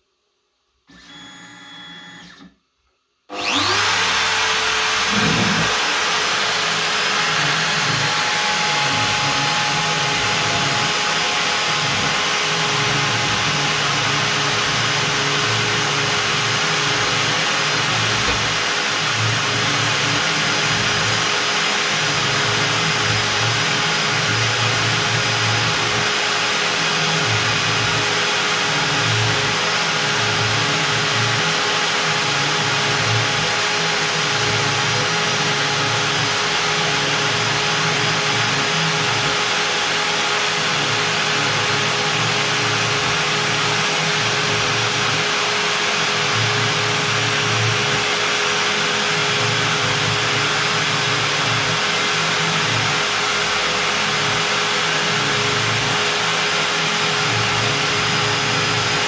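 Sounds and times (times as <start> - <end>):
router spindle milling wood: 3.3 - 59.0.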